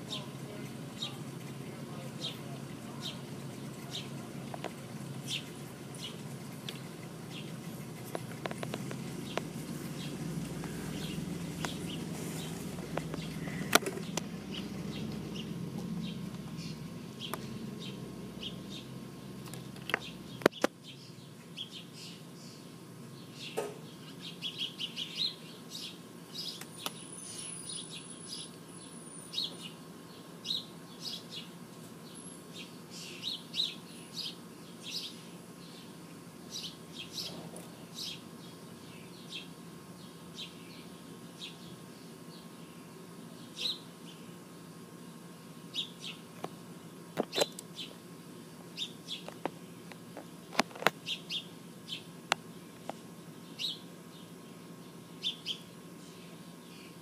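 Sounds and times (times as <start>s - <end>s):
low background hum: 0.0s - 57.0s
small birds chirping: 0.0s - 57.0s.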